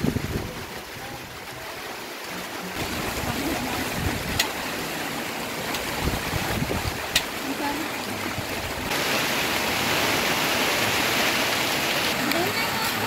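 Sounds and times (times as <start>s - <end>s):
wind blowing: 0.0s - 1.8s, 2.6s - 13.0s.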